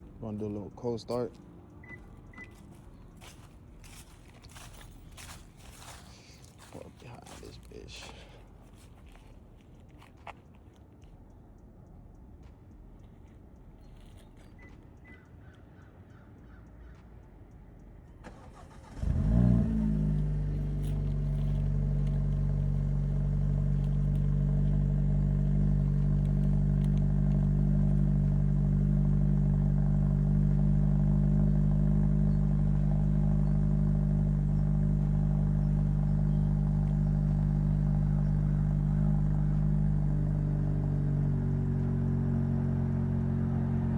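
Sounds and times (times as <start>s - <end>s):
car engine cold start and idle: 0.0s - 9.2s, 17.6s - 43.9s.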